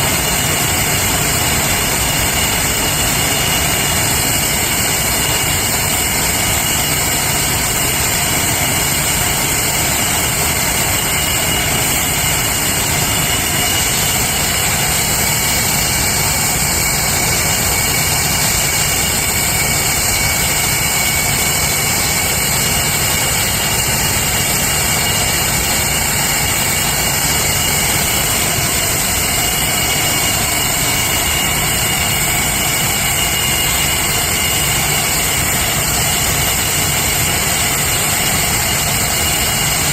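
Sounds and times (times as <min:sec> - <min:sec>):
jet engines running with high whine: 0:00.0 - 0:39.9.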